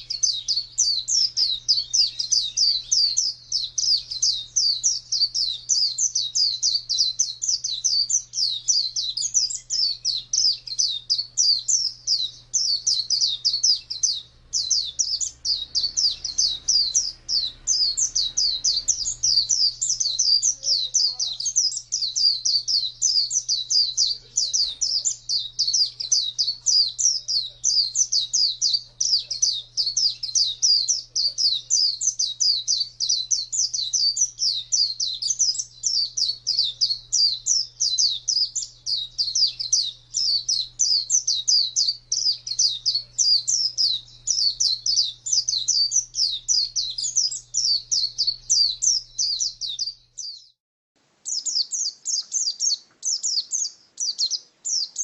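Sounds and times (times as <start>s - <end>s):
bird twittering song: 0.0s - 50.6s, 51.2s - 55.0s.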